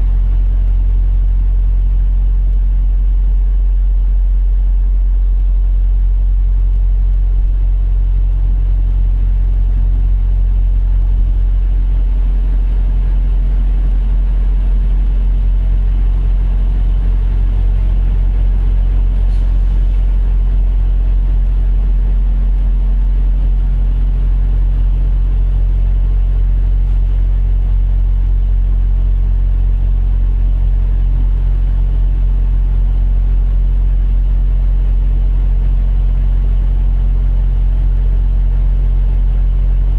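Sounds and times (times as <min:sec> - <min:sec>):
diesel engine idling: 0:00.0 - 0:34.6.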